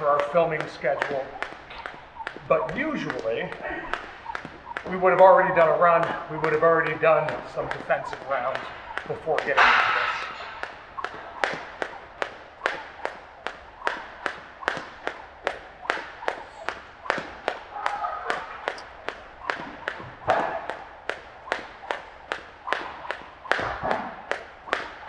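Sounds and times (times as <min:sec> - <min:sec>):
jump rope slapping gym floor: 0:00.0 - 0:25.0.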